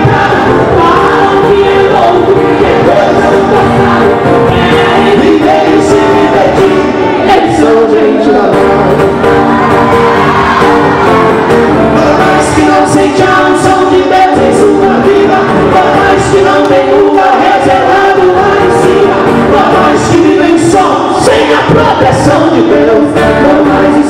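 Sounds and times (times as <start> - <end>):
choir and congregation singing: 0.0 - 8.5, 9.4 - 24.0
man and woman singing lead: 0.0 - 8.6, 11.9 - 24.0
acoustic guitars: 0.0 - 24.0.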